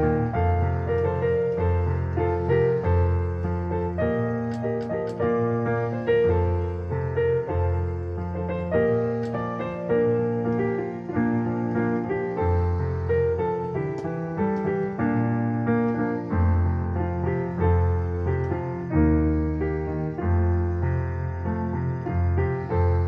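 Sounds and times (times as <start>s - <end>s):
digital piano worship song: 0.0s - 23.0s.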